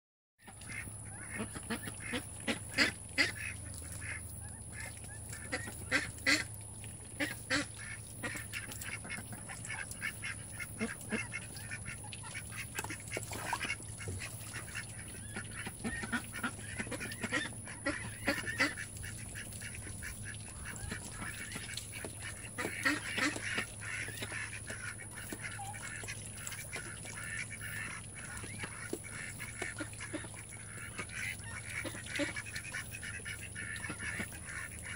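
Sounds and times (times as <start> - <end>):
ducks calling: 0.4 - 34.9.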